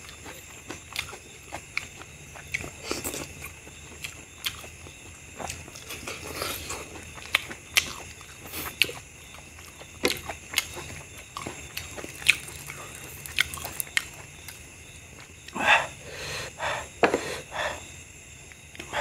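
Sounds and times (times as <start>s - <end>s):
wet chewing and mouth smacks: 0.0s - 15.6s.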